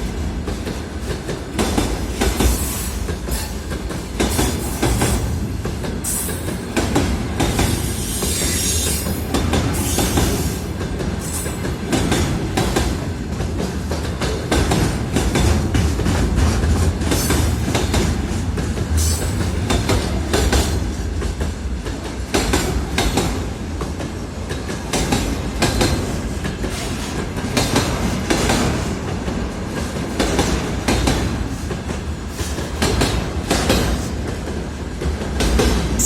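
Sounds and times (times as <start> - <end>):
freight train wagons rumbling: 0.0 - 36.0.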